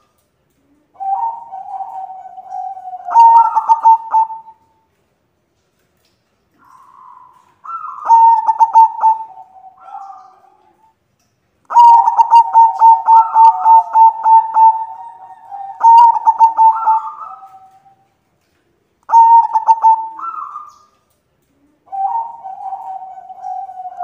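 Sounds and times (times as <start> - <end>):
doves cooing: 0.0 - 4.6, 6.6 - 10.9, 11.7 - 18.1, 19.1 - 24.0.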